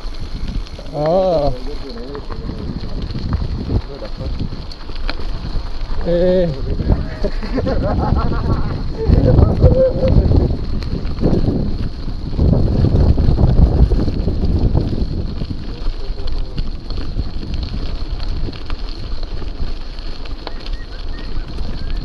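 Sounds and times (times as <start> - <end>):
bike tyres rolling on tarmac: 0.0 - 22.0
wind buffeting microphone: 0.0 - 22.0.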